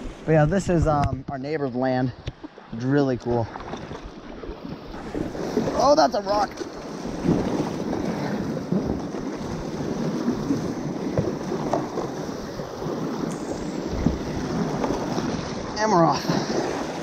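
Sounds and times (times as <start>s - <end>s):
river water rushing and splashing: 0.0s - 0.8s, 2.2s - 17.0s
wind buffeting microphone: 0.0s - 17.0s.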